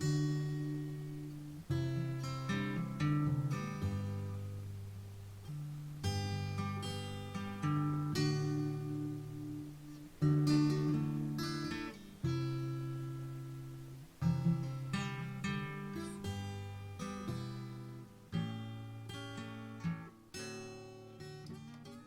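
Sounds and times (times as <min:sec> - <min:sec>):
acoustic guitar chords strummed: 0:00.0 - 0:22.0.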